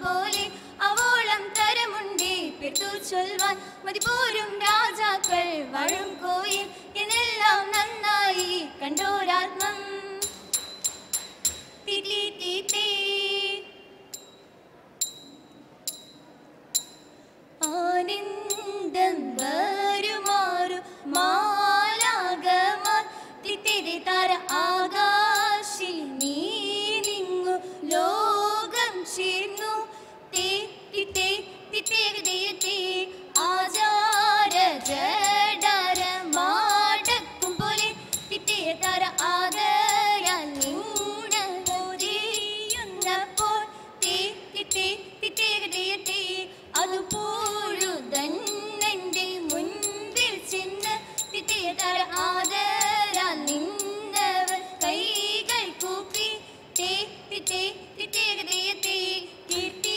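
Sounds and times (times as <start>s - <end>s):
women singing through microphones: 0.0s - 14.2s, 17.6s - 59.9s.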